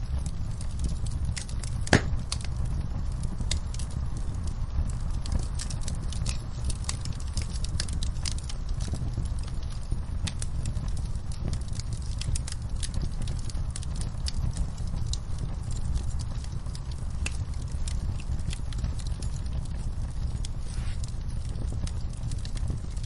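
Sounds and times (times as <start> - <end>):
rain: 0.0 - 23.0
wood fire crackling and popping: 0.0 - 23.0.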